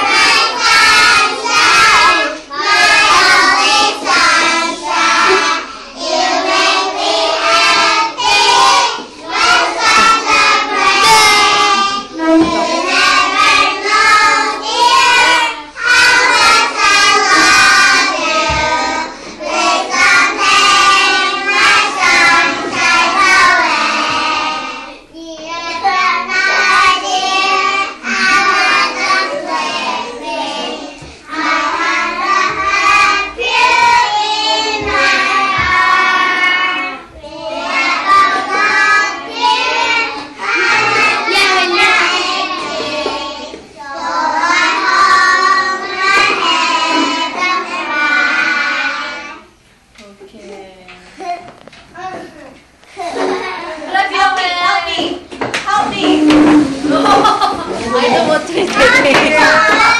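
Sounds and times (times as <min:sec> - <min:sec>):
children singing: 0:00.0 - 0:49.6, 0:55.8 - 0:59.9.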